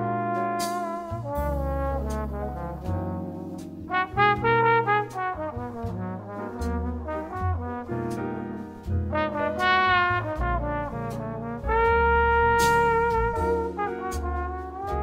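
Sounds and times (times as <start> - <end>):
bass line: 0.0 - 15.0
brass melody: 0.0 - 15.0.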